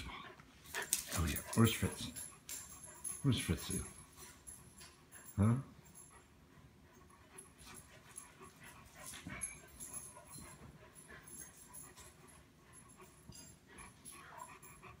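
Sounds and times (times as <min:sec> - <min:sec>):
dog panting quietly: 0:00.0 - 0:15.0.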